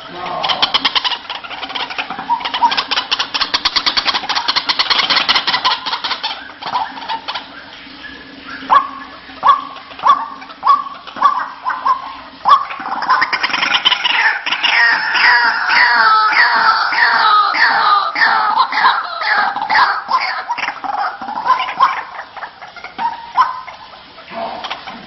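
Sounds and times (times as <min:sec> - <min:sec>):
waterhen falling notes: 0:00.0 - 0:25.0
waterhen rattling chatter: 0:00.0 - 0:25.0.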